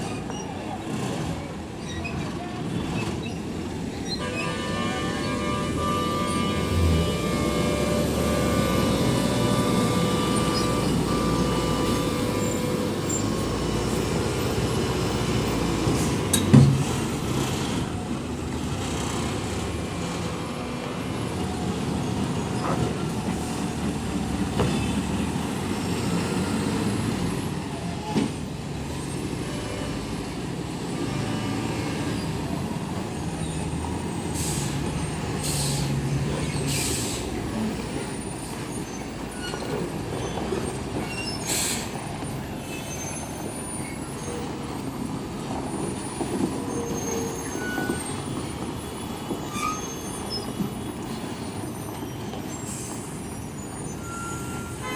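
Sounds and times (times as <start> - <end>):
heavy diesel trucks in traffic: 0.0 - 54.9.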